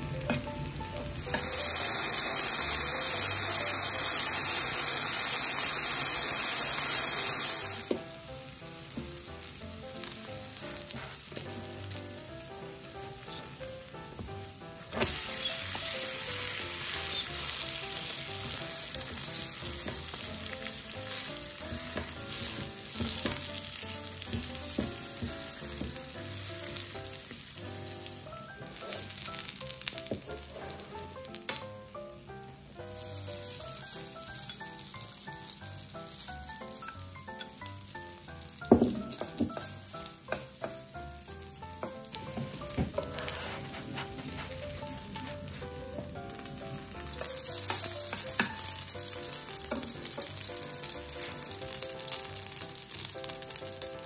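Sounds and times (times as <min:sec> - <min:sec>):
batter sizzling on a griddle: 0:00.0 - 0:54.0
soft background music: 0:00.0 - 0:54.0.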